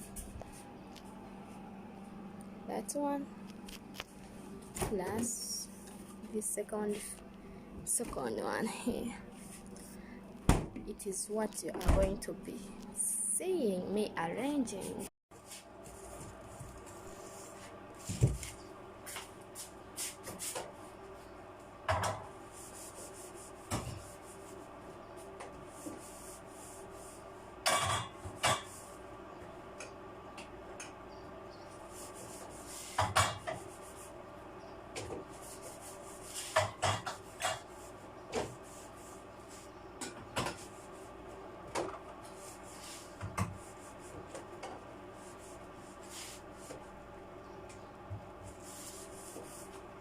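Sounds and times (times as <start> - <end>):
faint hum: 0.0 - 50.0.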